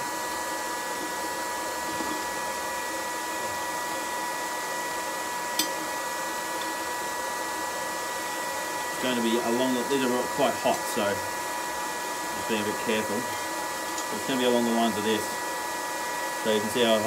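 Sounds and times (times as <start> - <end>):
electric air blower whining: 0.0 - 17.0.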